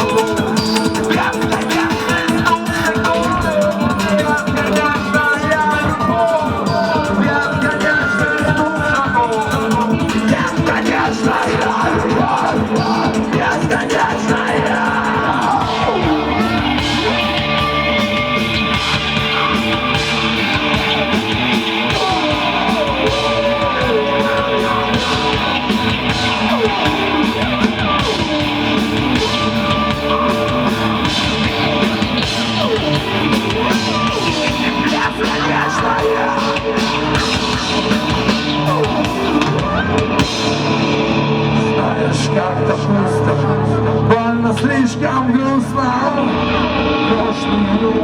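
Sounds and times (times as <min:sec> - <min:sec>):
rock band playing live: 0:00.0 - 0:48.0.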